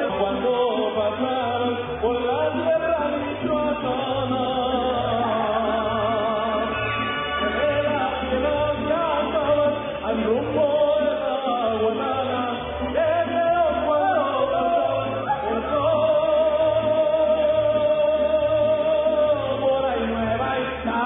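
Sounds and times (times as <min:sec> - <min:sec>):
person singing: 0:00.0 - 0:21.0
string accompaniment: 0:00.0 - 0:21.0.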